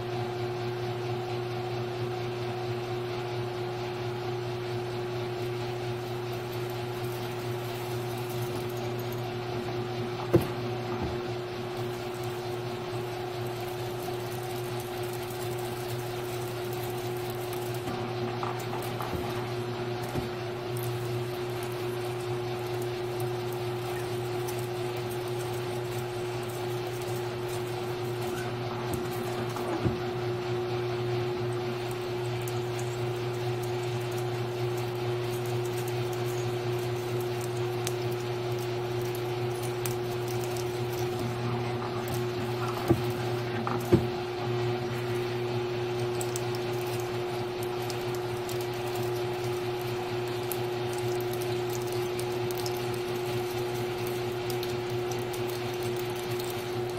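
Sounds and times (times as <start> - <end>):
drilling machine humming: 4.3 - 56.9.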